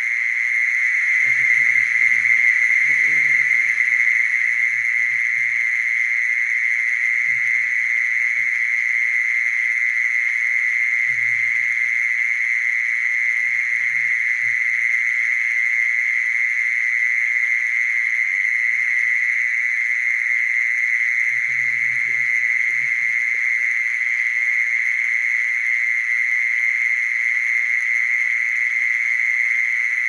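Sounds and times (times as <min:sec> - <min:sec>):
mole cricket buzzing trill: 0:00.0 - 0:30.0.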